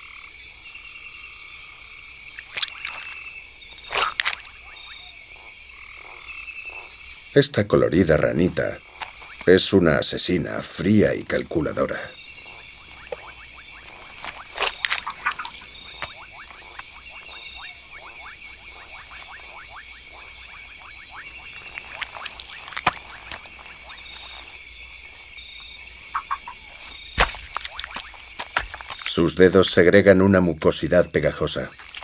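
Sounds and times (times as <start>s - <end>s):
high insect buzz: 0.0s - 32.0s
clicking frog calls: 1.2s - 32.0s.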